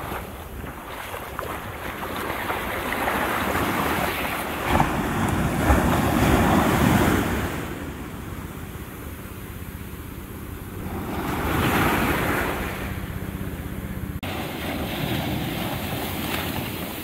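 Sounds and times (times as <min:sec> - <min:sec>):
ocean wave washing: 0:00.0 - 0:17.0
wind rumbling on microphone: 0:00.0 - 0:17.0.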